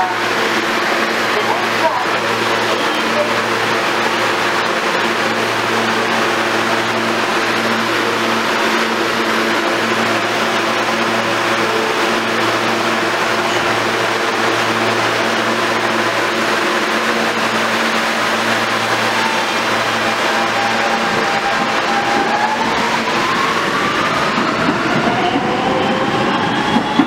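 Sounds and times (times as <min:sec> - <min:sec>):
subway train humming: 0:00.0 - 0:27.0.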